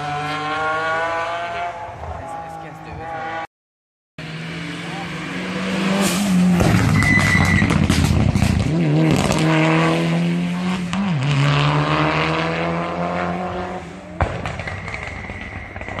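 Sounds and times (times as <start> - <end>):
car engine revving hard: 0.0 - 3.5, 4.2 - 16.0.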